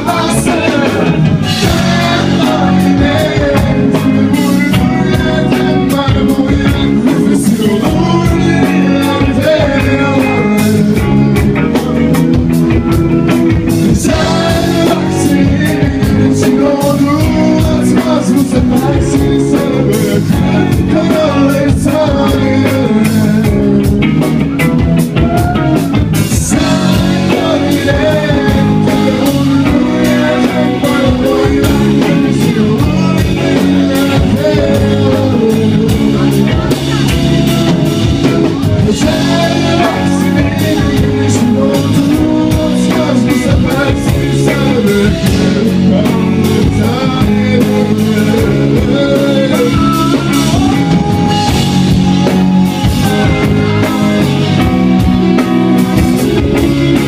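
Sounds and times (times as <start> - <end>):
men singing together: 0.0 - 11.4, 13.8 - 24.0, 26.3 - 53.5
rock band with drums: 0.0 - 57.0.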